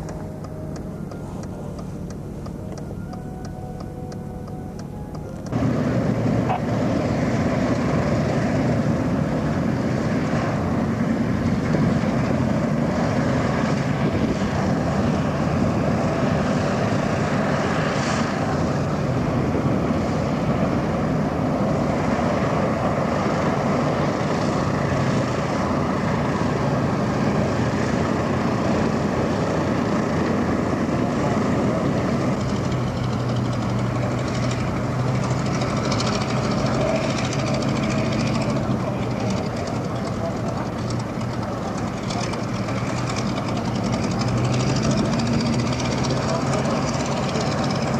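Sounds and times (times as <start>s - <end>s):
radial aircraft engine running: 0.0s - 47.9s.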